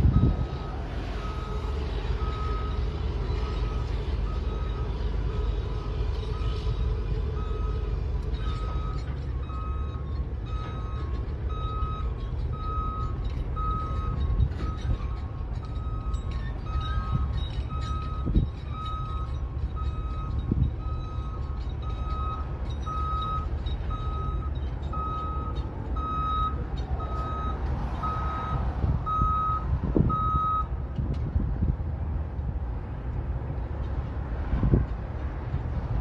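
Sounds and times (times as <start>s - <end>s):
reversing alarm beeping: 0.0s - 30.7s
engines rumbling: 0.0s - 36.0s.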